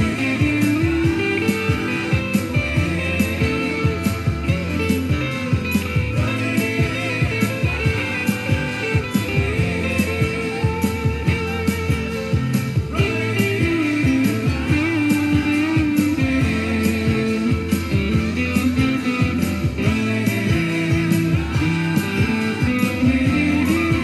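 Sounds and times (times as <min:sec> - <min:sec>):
backing track with drum beat: 0:00.0 - 0:24.0
electric guitar lead: 0:00.0 - 0:24.0.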